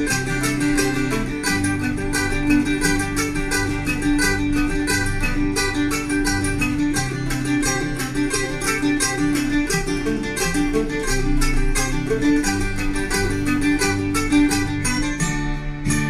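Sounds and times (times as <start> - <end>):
plucked guitar music: 0.0 - 16.0
steady bass: 0.0 - 16.0.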